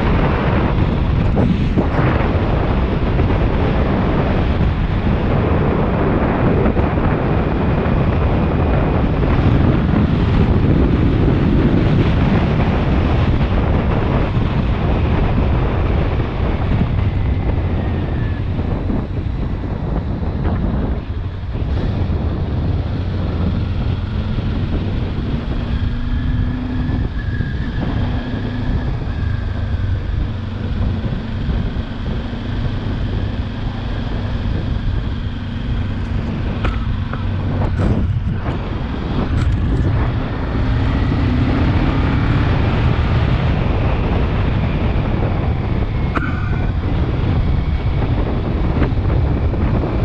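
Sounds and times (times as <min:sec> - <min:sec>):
motorcycle engine cruising: 0:00.0 - 0:50.0
wind rushing over microphone: 0:00.0 - 0:50.0.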